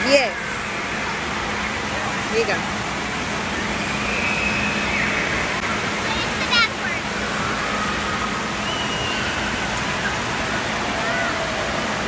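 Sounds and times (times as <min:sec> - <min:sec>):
water rushing and spattering: 0:00.0 - 0:12.0.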